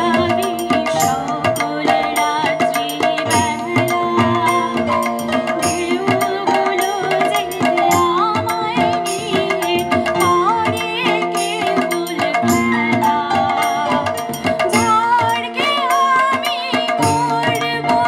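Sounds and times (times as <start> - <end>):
electronic keyboard melody: 0.0 - 18.0
harmonium: 0.0 - 18.0
tabla strokes: 0.0 - 18.0.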